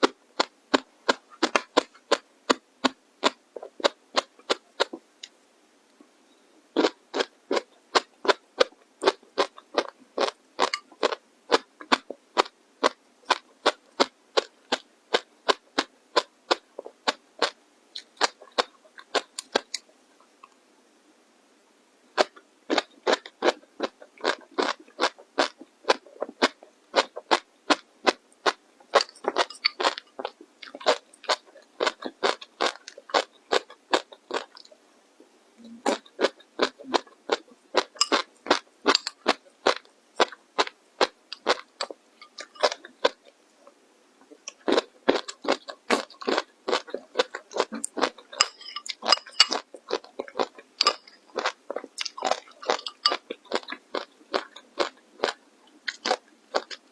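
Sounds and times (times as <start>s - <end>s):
chewing crunchy food: 0.0s - 5.0s, 6.8s - 19.9s, 22.2s - 34.8s, 35.6s - 43.4s, 44.2s - 56.9s.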